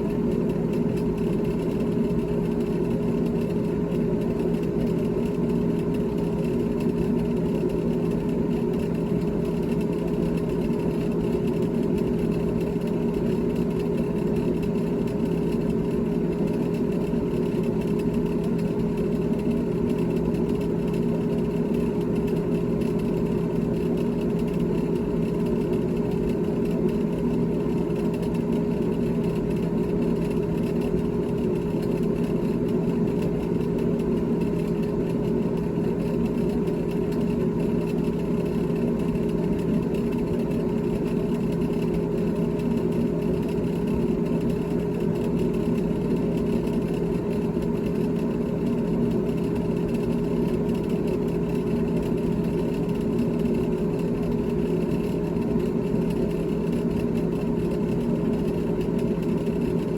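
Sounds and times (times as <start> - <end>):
refrigerator humming: 0.0 - 59.9.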